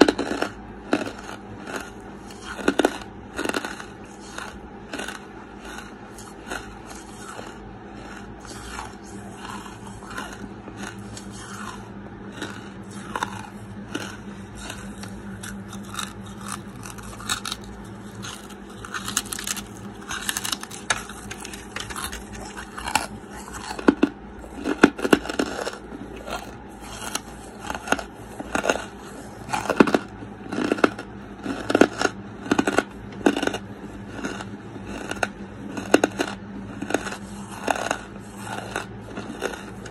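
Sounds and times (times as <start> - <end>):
charcoal being chewed and crunched: 0.0 - 39.9.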